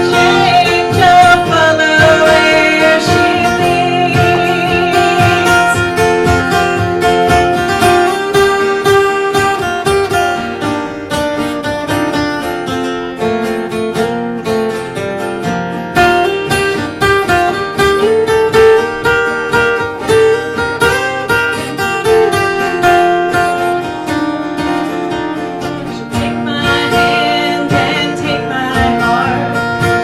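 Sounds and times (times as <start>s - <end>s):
acoustic guitar strummed: 0.0s - 30.0s
melodic lead guitar notes: 0.0s - 30.0s.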